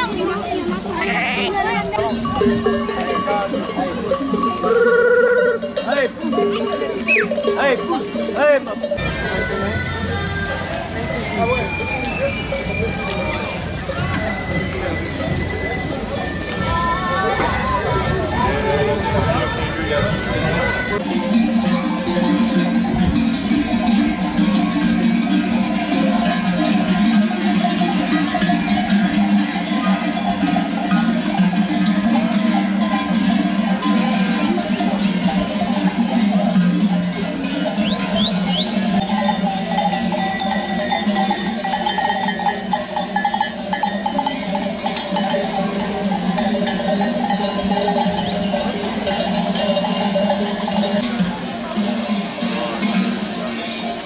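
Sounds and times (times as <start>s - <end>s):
livestock bells clanking: 0.0s - 54.0s.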